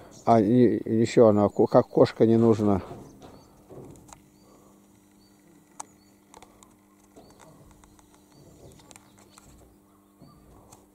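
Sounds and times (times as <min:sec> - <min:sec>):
small birds chirping: 0:00.0 - 0:10.9
steady low hum: 0:00.0 - 0:10.9.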